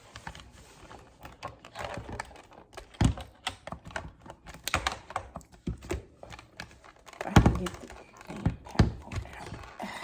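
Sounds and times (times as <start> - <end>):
plastic clicks and rattles: 0.1 - 10.0.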